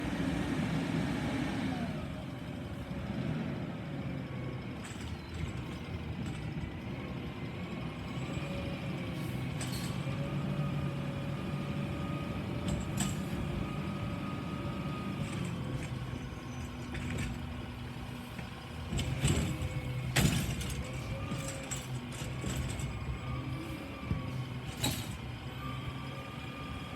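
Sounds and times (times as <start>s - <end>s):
garbage truck engine rumble: 0.0s - 26.9s.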